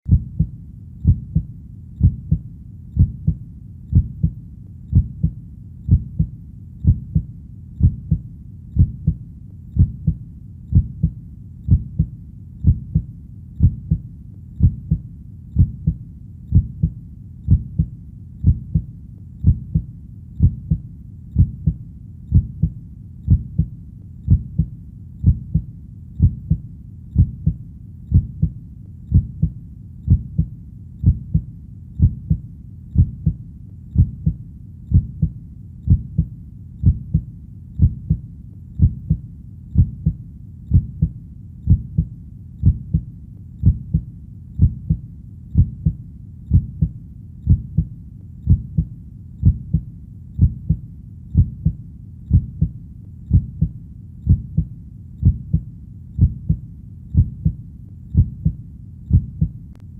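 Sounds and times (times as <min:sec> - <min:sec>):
heartbeat double thump: 0:00.1 - 0:02.4, 0:03.0 - 0:08.2, 0:08.8 - 0:09.2, 0:09.8 - 0:14.0, 0:14.6 - 0:15.0, 0:15.6 - 0:20.8, 0:21.4 - 0:23.7, 0:24.3 - 0:26.6, 0:27.2 - 0:32.4, 0:34.0 - 0:38.2, 0:38.8 - 0:39.2, 0:39.8 - 0:45.0, 0:45.6 - 0:47.9, 0:48.5 - 0:50.8, 0:51.4 - 0:52.7, 0:53.3 - 0:53.7, 0:54.3 - 0:55.6, 0:56.2 - 0:56.6, 0:57.2 - 0:59.6.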